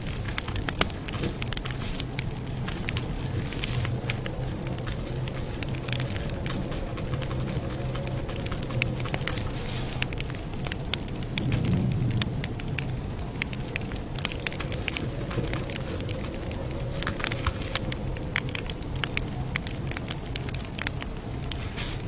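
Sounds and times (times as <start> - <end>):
burning wood popping: 0.0 - 22.0
campfire crackling: 0.0 - 22.0
low rumble of flames: 0.0 - 22.0.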